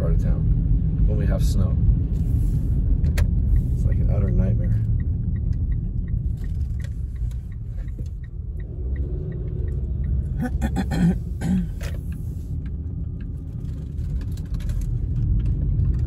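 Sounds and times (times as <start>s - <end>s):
car driving on wet road: 0.2s - 16.0s
turn signal ticking: 1.8s - 16.0s.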